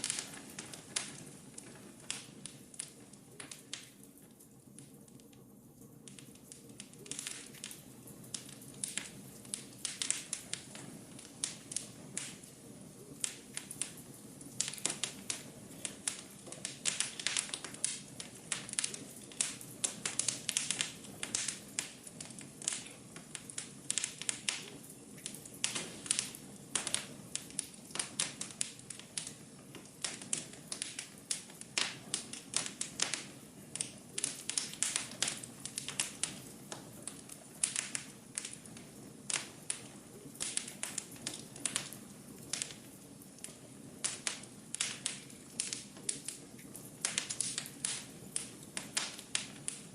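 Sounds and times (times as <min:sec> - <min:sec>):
fire crackling and popping: 0:00.0 - 0:49.9
soft rush of flame: 0:00.0 - 0:49.9.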